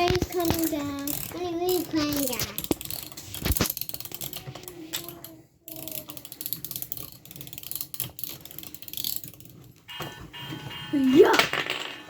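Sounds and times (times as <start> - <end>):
toy crane crank ratcheting: 0.0 - 10.1.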